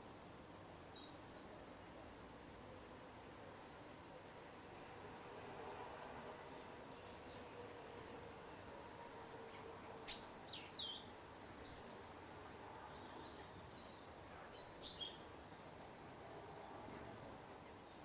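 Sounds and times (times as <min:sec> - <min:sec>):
faint background hiss: 0:00.0 - 0:18.0
songbirds chirping: 0:00.8 - 0:18.0.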